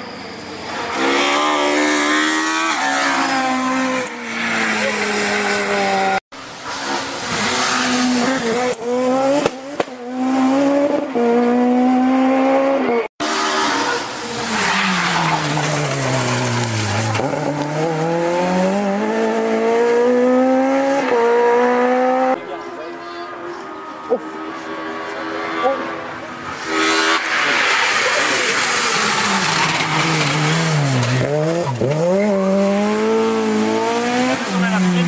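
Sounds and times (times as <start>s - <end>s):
rally car engine revving: 0.6s - 22.7s, 23.7s - 35.0s.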